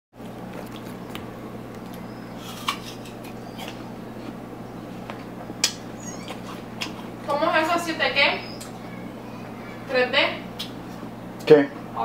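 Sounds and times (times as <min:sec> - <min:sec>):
low room hum: 0:00.2 - 0:12.0.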